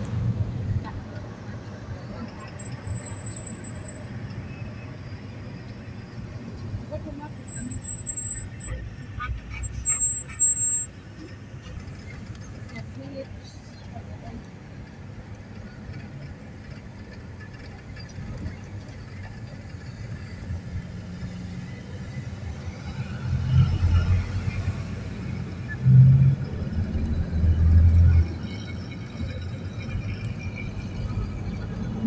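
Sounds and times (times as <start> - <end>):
vehicle rumble from inside cabin: 0.0 - 32.0.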